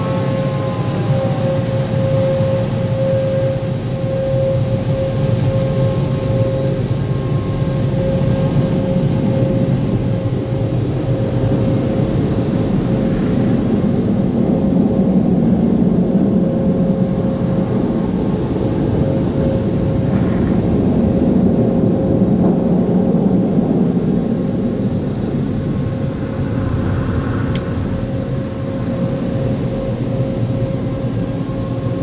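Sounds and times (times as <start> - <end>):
car wash machinery and water spray: 0.0 - 32.0
constant hum: 0.0 - 32.0.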